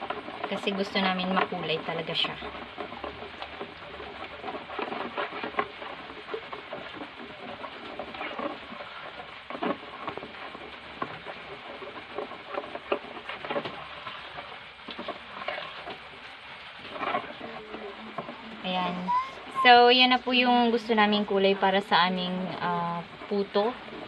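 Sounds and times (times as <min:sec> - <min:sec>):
hand stirring wet batter: 0:00.0 - 0:24.0.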